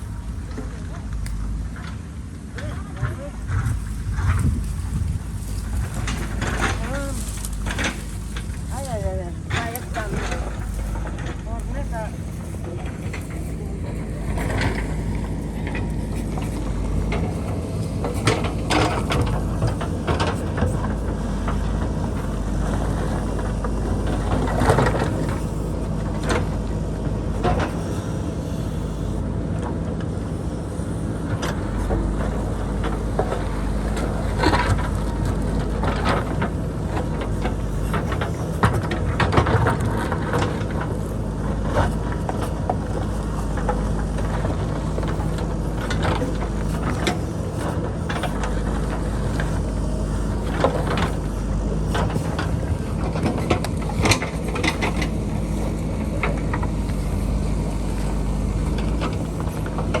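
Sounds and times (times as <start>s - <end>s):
diesel engine running under load: 0.0s - 60.0s.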